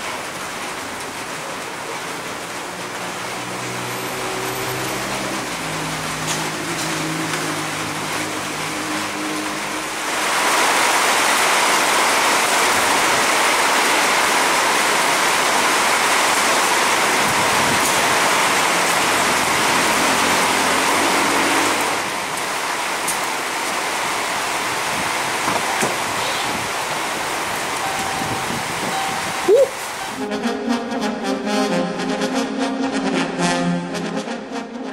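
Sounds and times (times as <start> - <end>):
heavy rain pouring: 0.0 - 31.4.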